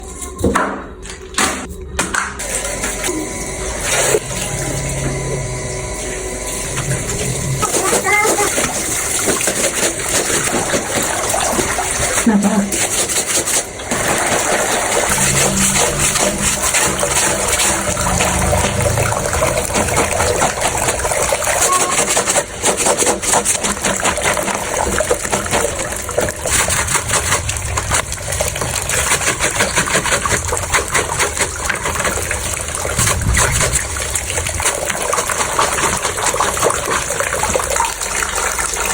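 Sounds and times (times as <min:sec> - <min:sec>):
clothes washed by hand in water: 0:00.9 - 0:38.9.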